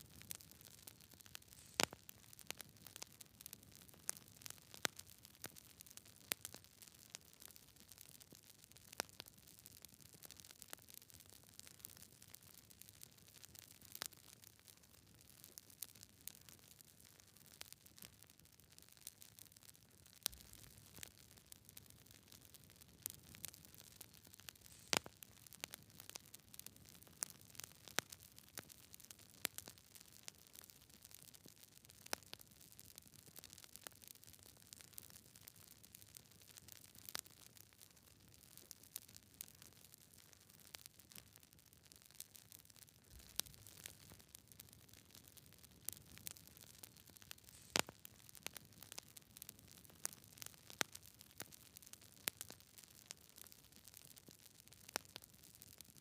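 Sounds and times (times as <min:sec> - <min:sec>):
faint steady hiss: 0:00.0 - 0:56.0
wood fire crackling: 0:00.0 - 0:56.0.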